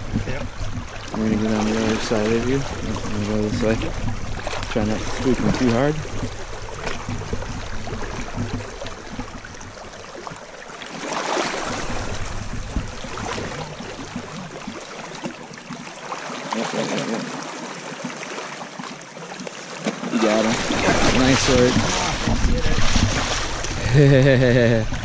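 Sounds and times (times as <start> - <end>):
river water rushing: 0.0 - 24.1.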